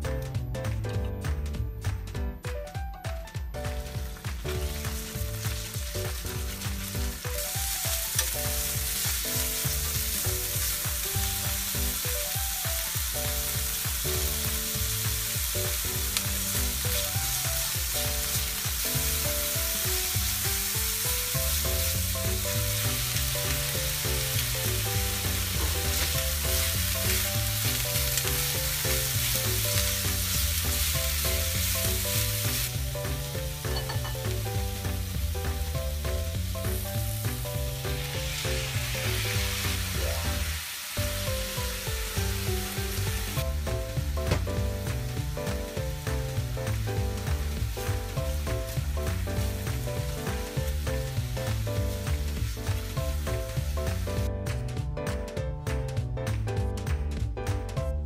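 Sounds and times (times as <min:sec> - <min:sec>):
background music: 0:00.0 - 0:58.0
food sizzling in a frying pan: 0:03.6 - 0:54.6.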